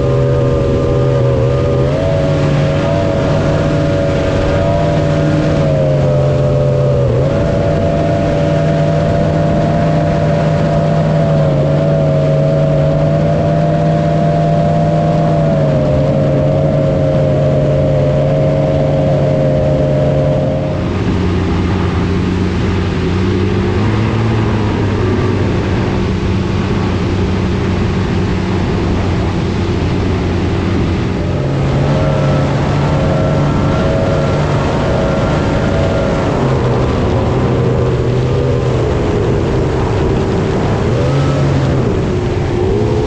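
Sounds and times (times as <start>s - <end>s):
boat engine running: 0.0s - 43.0s
rush of wind and water: 0.0s - 43.0s.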